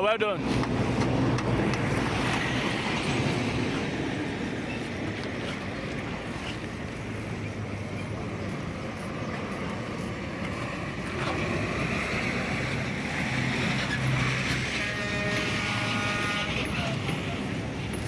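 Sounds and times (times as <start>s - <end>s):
vehicle engine and traffic: 0.0s - 18.0s.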